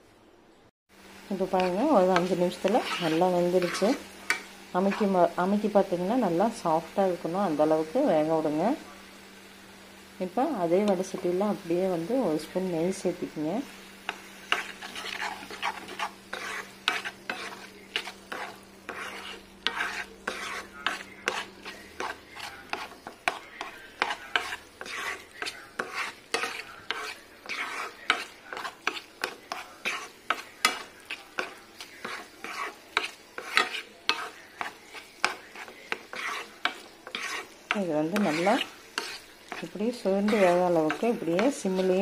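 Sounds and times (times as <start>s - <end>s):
light sizzle: 0.0s - 42.0s
spatula scraping a pan: 1.3s - 9.2s, 10.8s - 42.0s.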